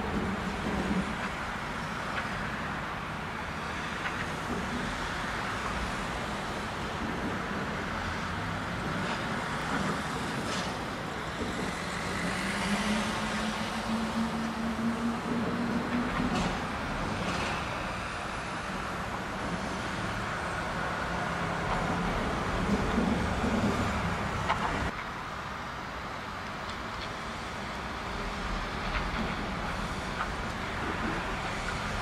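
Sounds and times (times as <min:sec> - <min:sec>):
distant traffic rumble: 0:00.0 - 0:32.0.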